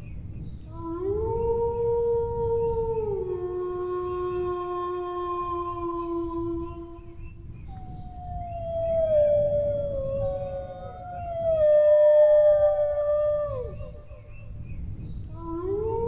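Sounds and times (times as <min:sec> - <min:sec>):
dogs howling: 0:00.7 - 0:07.1, 0:07.7 - 0:14.4.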